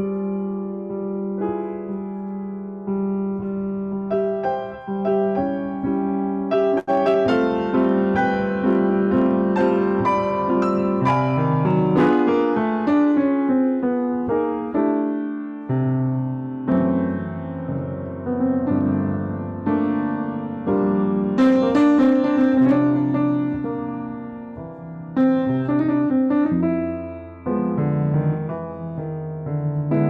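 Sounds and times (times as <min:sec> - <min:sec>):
piano playing: 0:00.0 - 0:30.0.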